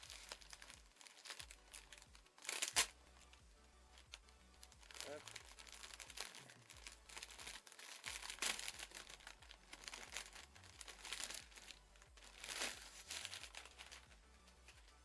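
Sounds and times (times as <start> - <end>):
plastic bag crinkling: 0.0 - 3.0, 3.9 - 14.9.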